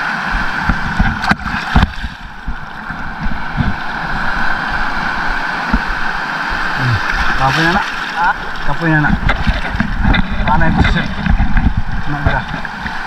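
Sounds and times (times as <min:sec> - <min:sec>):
wind buffeting microphone: 0:00.0 - 0:07.8, 0:08.4 - 0:13.0
shallow surf washing: 0:00.0 - 0:13.0.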